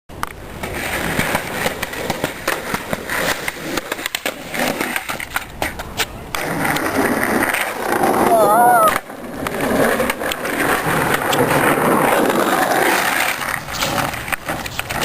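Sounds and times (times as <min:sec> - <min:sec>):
skateboard wheels rolling on pavement: 0:00.1 - 0:15.0.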